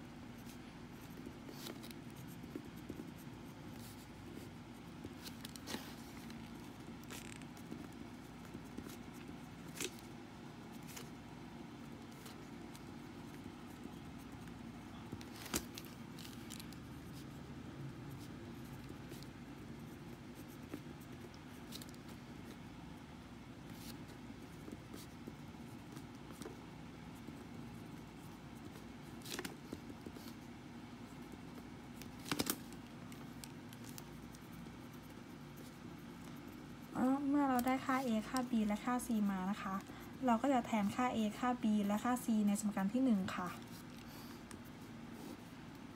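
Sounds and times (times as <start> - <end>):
faint background hum: 0.0 - 45.9
pen scratching on paper: 0.2 - 17.5, 18.1 - 22.6, 23.6 - 32.0, 33.2 - 45.5.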